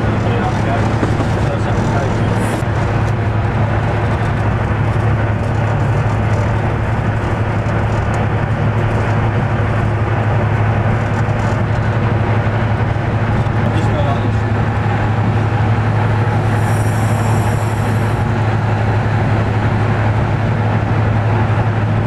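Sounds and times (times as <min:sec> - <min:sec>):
diesel engine drone: 0:00.0 - 0:22.0
train running noise: 0:00.0 - 0:22.0.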